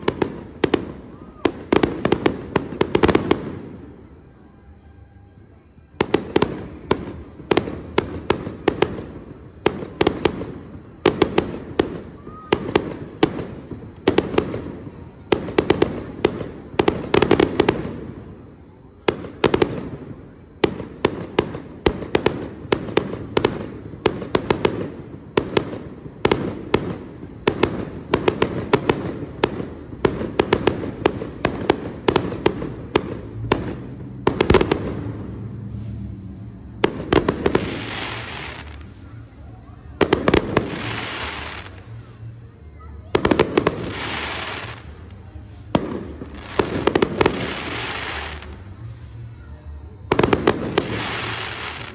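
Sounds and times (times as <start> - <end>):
fireworks bursting with bangs: 0.0 - 4.2, 5.9 - 51.9.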